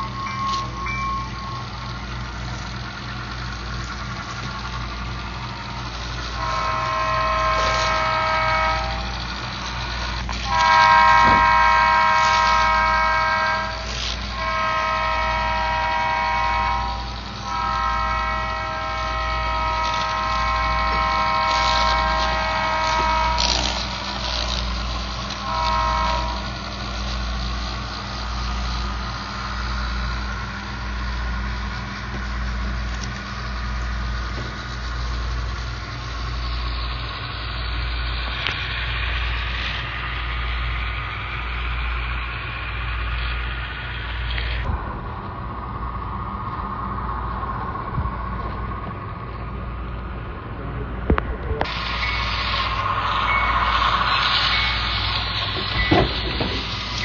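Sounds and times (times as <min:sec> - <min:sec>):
train horn blasts: 0:00.0 - 0:42.3, 0:51.6 - 0:57.0
low engine rumble: 0:00.0 - 0:57.0.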